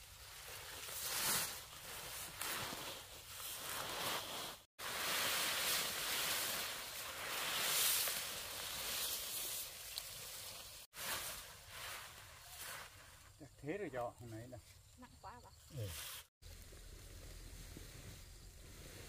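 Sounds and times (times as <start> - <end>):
leaves and stalks rustling: 0.0 - 19.0.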